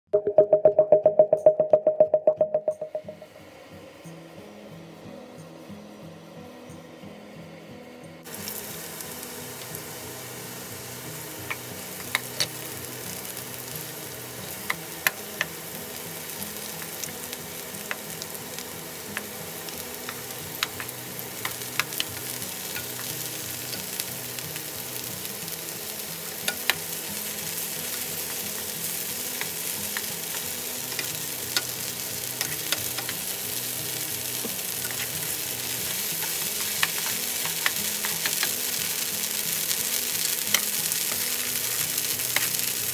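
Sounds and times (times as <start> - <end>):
mushrooms sizzling in oil: 8.2 - 42.9.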